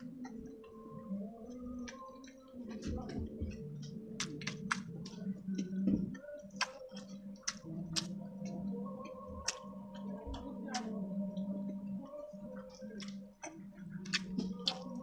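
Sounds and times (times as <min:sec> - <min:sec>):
chewing with lip-smacks: 0:00.0 - 0:15.0.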